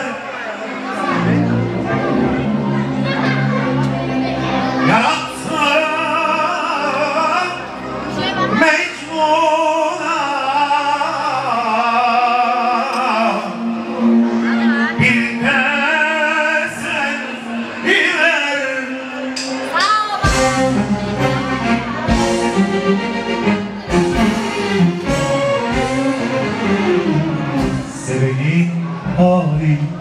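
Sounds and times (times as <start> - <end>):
low musical accompaniment: 0.7 - 30.0.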